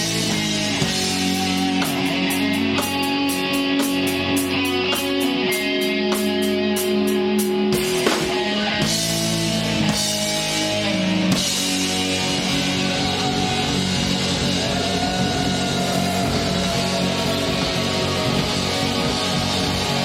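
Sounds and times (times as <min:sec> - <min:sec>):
distorted electric guitar chords: 0:00.0 - 0:20.0
drums: 0:00.0 - 0:20.0.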